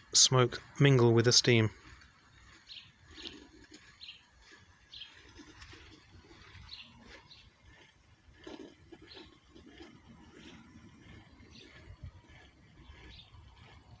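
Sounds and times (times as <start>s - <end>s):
small songbird chirping: 1.8s - 14.0s.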